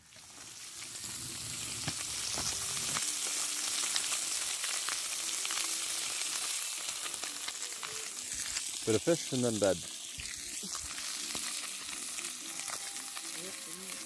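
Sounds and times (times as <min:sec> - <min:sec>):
fish frying in a pan: 0:00.0 - 0:14.0.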